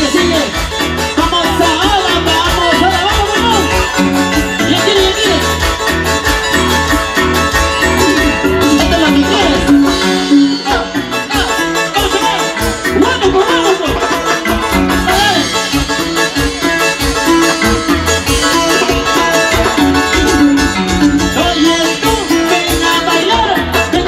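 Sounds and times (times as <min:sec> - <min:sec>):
live band dance music: 0:00.0 - 0:24.0.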